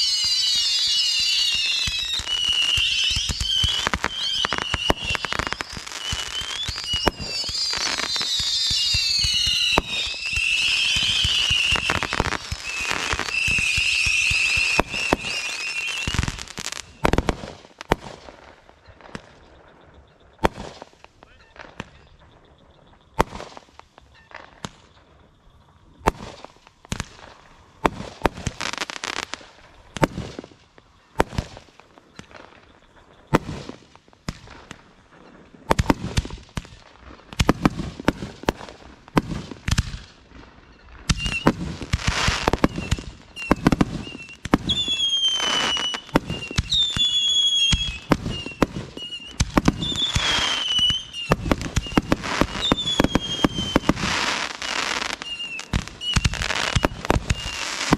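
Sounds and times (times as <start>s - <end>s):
fireworks bangs and crackling: 0.0s - 57.9s
whistling firework shells: 0.0s - 57.9s.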